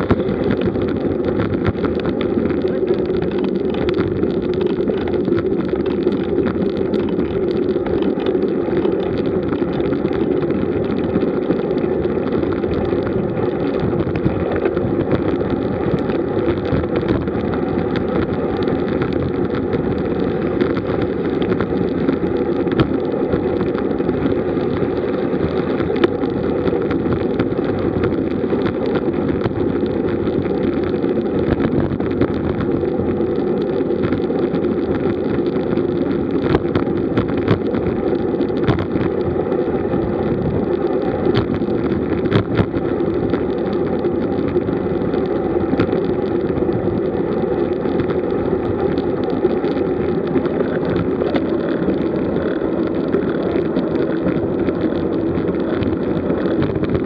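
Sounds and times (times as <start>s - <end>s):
bicycle tyre noise: 0.0s - 57.0s.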